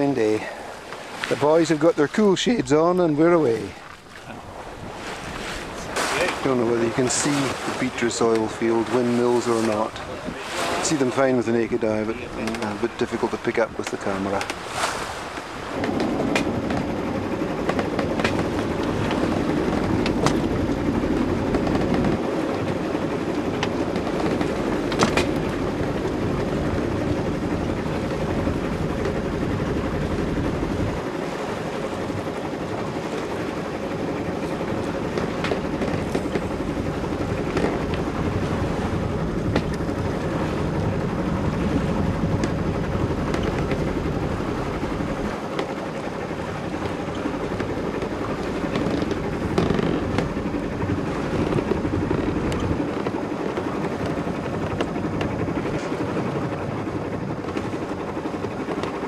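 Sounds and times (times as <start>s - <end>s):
wind and water rushing: 0.0s - 59.0s.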